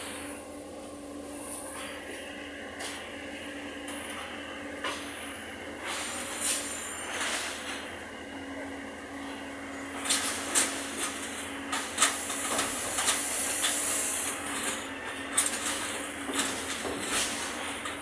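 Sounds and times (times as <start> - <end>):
excavator engine humming: 0.0 - 18.0.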